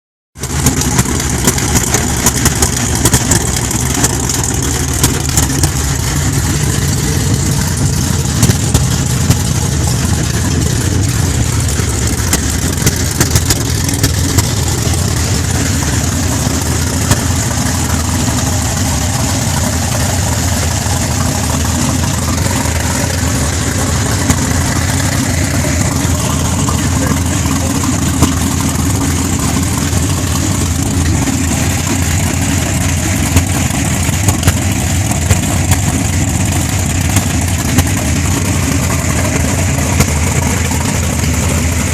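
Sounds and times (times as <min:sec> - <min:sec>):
car engine idling: 0:00.4 - 0:41.9
sharp clicks and crackles: 0:00.4 - 0:41.9.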